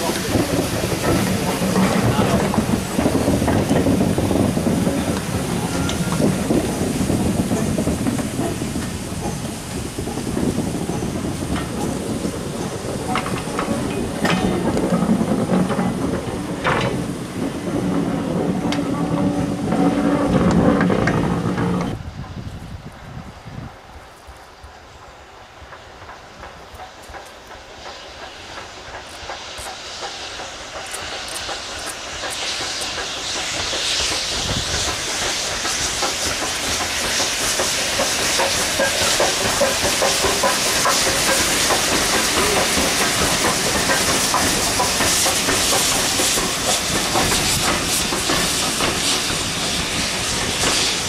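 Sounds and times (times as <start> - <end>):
wheels clicking over rail joints: 0.0 - 22.6, 25.6 - 50.9
steam train hissing steam: 0.0 - 51.0.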